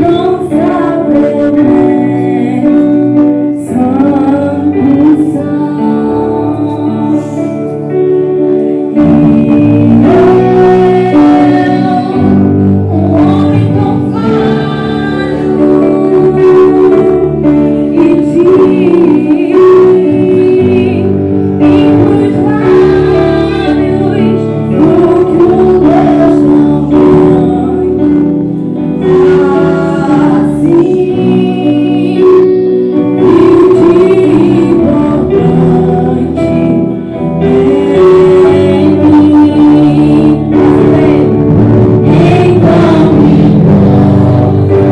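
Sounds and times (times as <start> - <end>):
group singing a gospel song: 0.0 - 7.8, 8.8 - 44.9
held accompaniment chords: 0.0 - 44.9.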